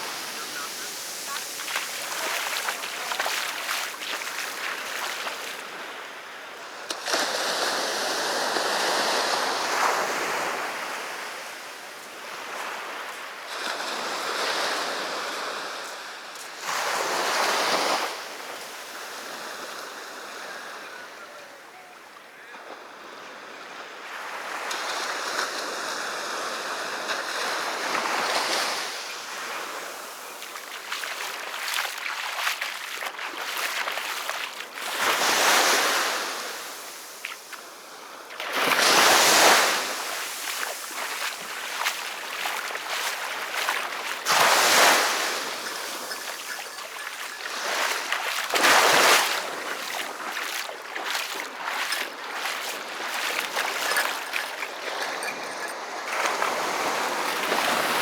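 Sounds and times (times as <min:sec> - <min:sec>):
sea waves breaking on beach: 0:00.0 - 0:21.2, 0:22.7 - 0:58.0.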